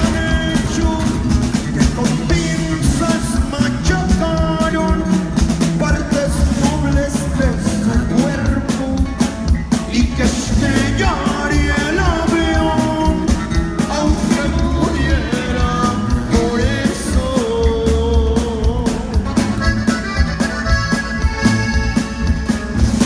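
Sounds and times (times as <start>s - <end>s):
accordion melodic runs: 0.0s - 23.0s
bass and drums: 0.0s - 23.0s.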